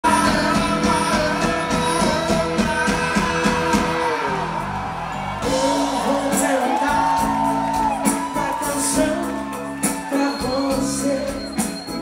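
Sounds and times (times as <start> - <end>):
drum kit beat: 0.0 - 4.2, 5.3 - 12.0
electric guitar: 0.0 - 12.0.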